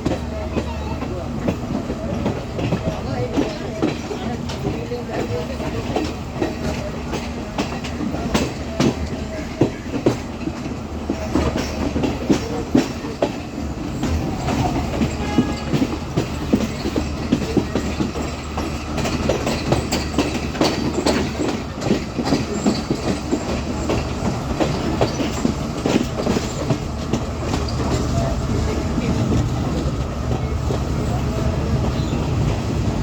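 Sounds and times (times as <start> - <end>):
low train drone: 0.0 - 33.0
train wheels clattering over rail joints: 0.0 - 33.0.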